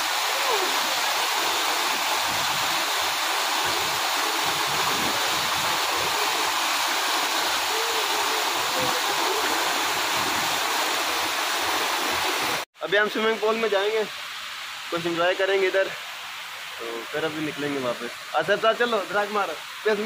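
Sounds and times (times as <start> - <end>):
waterfall rushing into pool: 0.0 - 20.0.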